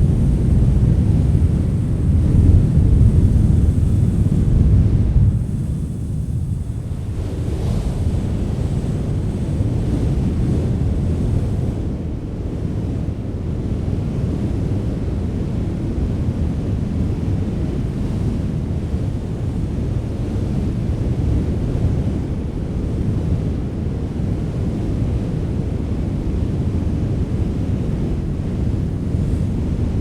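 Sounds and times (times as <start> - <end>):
strong wind rushing: 0.0 - 30.0
wind buffeting microphone: 0.0 - 30.0.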